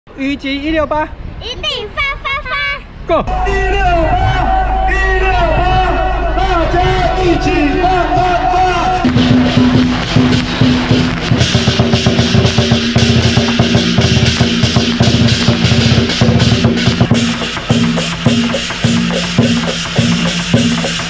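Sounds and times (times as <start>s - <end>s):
steady held tone: 3.2s - 21.0s
barrel drums beating: 3.3s - 21.0s
cymbals crashing: 3.3s - 21.0s.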